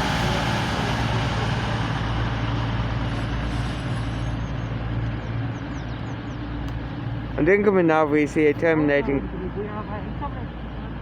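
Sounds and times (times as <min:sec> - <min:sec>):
train diesel engines humming: 0:00.0 - 0:11.0.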